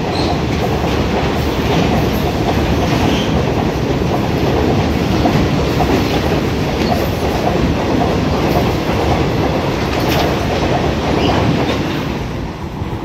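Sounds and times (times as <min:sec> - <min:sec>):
wheels clacking over rail joints: 0:00.0 - 0:12.3
freight train passing: 0:00.0 - 0:13.0.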